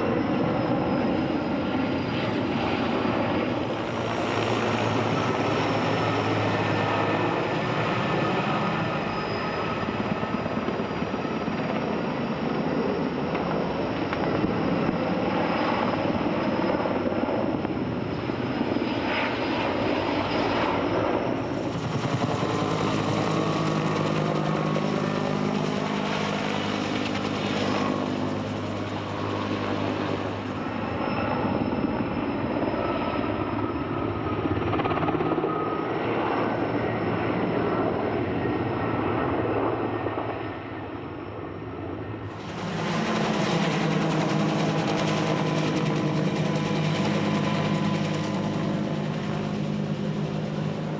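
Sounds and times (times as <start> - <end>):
helicopter flying overhead: 0.0 - 50.9.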